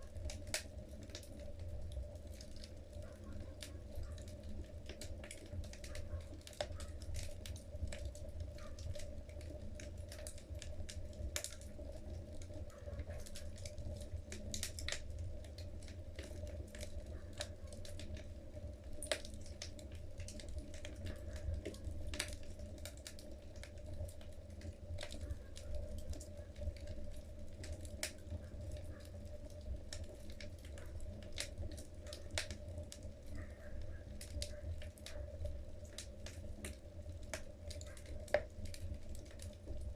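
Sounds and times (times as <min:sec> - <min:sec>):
logs crackling and popping: 0:00.0 - 0:39.9
low fire rumble: 0:00.0 - 0:39.9.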